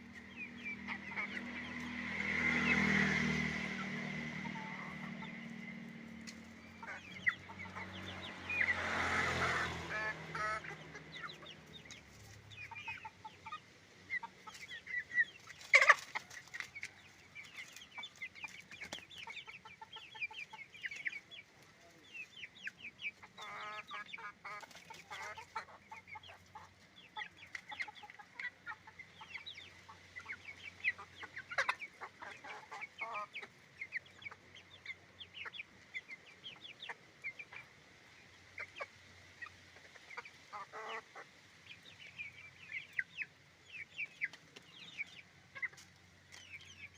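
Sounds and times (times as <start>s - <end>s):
chickens clucking and calling: 0.0s - 46.9s.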